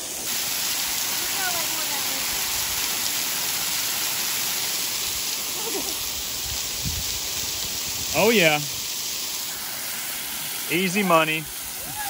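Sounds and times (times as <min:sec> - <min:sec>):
waterfall pouring onto rock: 0:00.0 - 0:12.0.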